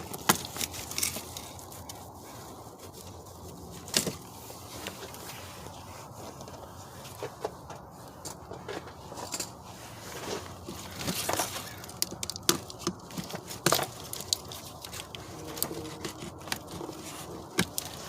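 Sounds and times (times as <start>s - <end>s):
rustling and scraping: 0.0s - 18.0s.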